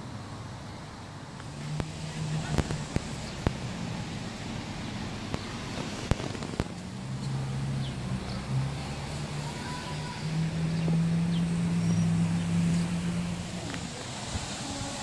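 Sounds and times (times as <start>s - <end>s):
low engine hum: 0.0s - 15.0s
motor vehicle traffic: 0.0s - 15.0s.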